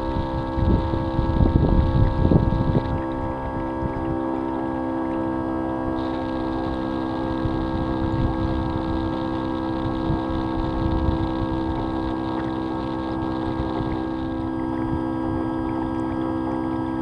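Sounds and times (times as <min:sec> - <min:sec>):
uneven low rumble: 0:00.0 - 0:05.2, 0:05.9 - 0:17.0
model boat motor humming: 0:00.0 - 0:17.0.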